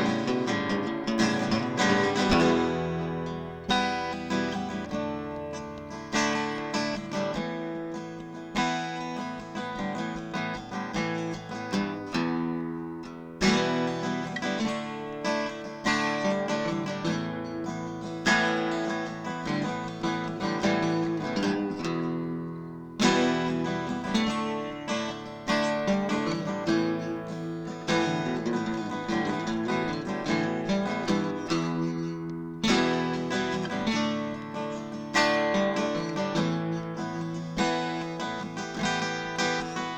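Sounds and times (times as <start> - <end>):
acoustic guitar picked and strummed: 0.0 - 39.9.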